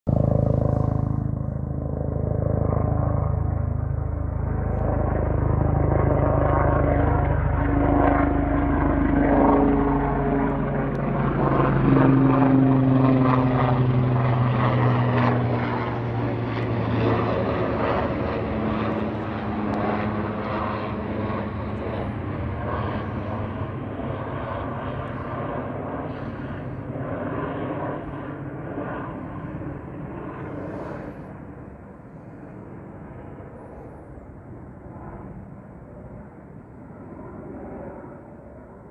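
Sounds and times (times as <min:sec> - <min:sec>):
helicopter passing overhead: 0:00.1 - 0:38.9.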